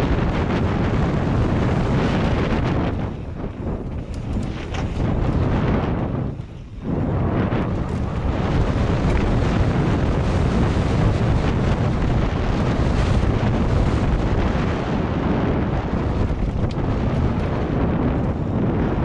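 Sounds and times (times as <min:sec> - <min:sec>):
bike tyres rumbling on dirt: 0:00.0 - 0:19.0
wind buffeting microphone: 0:00.0 - 0:19.0
bike knocks and rattles: 0:01.4 - 0:14.7, 0:16.0 - 0:18.5.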